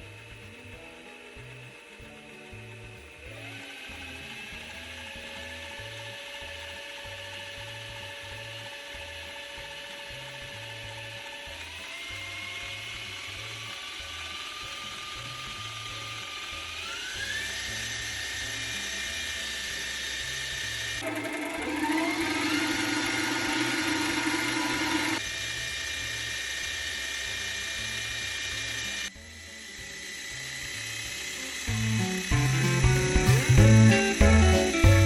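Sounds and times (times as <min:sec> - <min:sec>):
milling machine spindle whine: 0:00.0 - 0:35.0.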